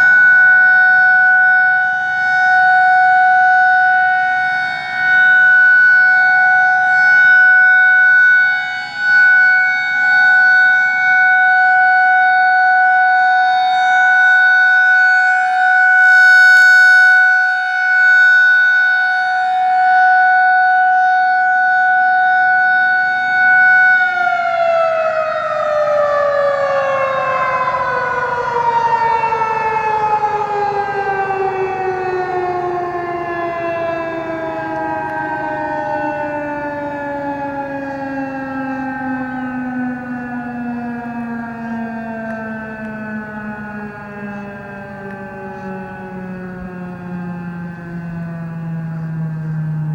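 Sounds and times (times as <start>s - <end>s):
rotating siren alert tone: 0.0s - 49.9s
siren winding down: 0.0s - 49.9s.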